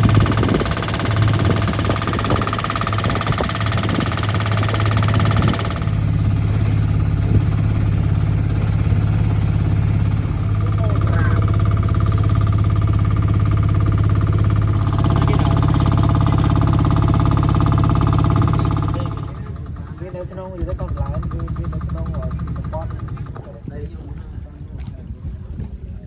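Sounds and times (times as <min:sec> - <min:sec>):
engine humming: 0:00.0 - 0:24.8.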